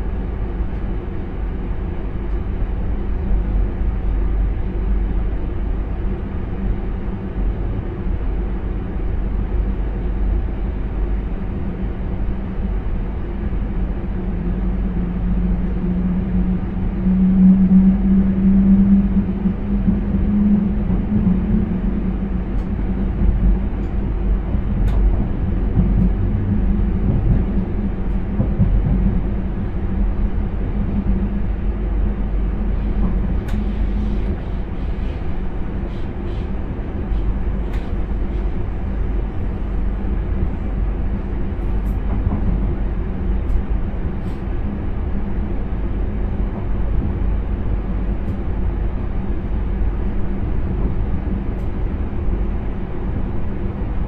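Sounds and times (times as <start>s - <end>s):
low hum: 0.0s - 54.0s
train wheels rumbling on rails: 0.0s - 54.0s.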